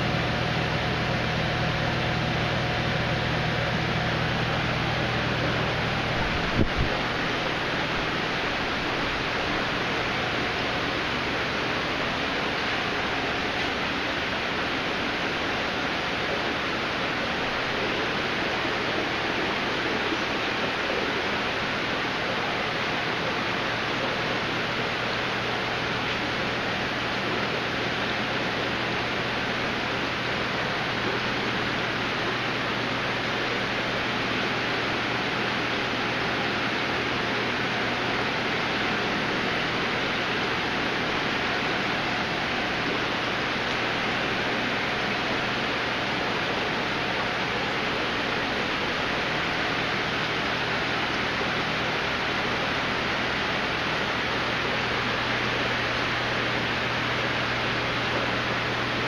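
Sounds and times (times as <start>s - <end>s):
aquarium water rushing: 0.0s - 59.0s
low electrical hum: 0.0s - 59.0s.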